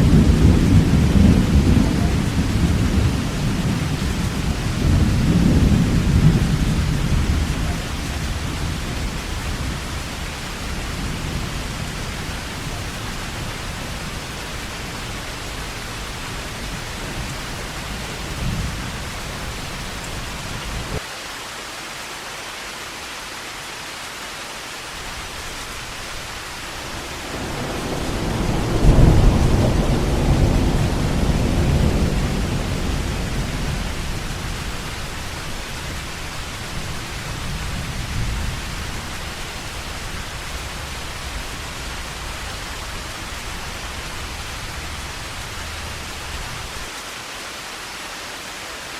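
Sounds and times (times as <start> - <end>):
rolling thunder: 0.0 - 21.0, 25.4 - 46.9
heavy rain falling: 0.0 - 48.9.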